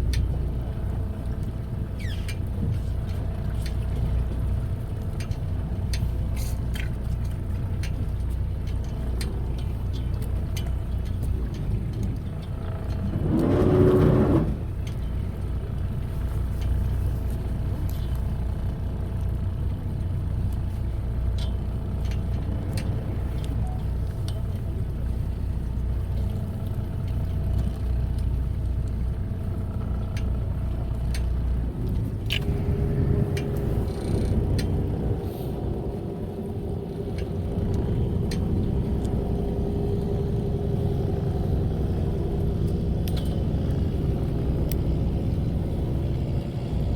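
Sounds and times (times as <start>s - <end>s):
boat engine humming: 0.0s - 46.9s.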